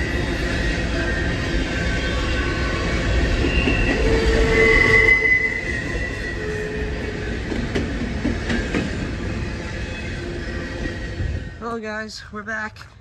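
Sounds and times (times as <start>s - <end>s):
train wheels squealing on rails: 0.0s - 11.8s
passing train rumble: 0.0s - 13.0s.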